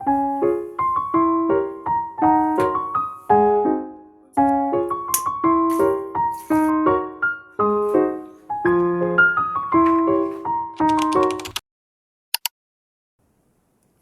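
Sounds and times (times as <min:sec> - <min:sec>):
gentle piano music: 0:00.0 - 0:11.6.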